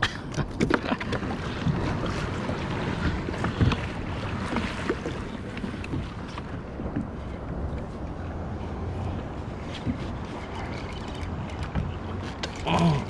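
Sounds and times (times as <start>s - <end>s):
water lapping against kayak: 0.0s - 13.0s.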